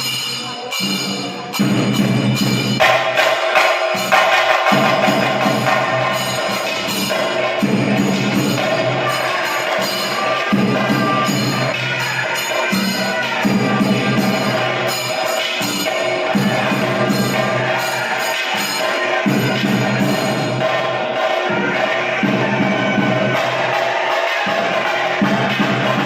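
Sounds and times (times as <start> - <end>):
drums beaten in fast roll: 0.0 - 26.0
hand cymbals clashing: 0.0 - 26.0.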